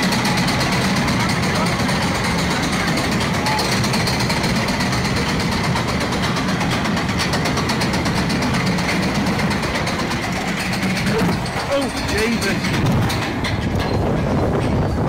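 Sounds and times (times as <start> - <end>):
lift chain clattering: 0.0 - 15.0.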